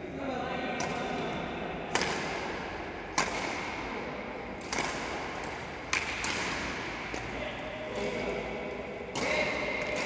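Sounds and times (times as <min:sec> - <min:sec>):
rackets striking shuttlecock: 0:01.9 - 0:10.0.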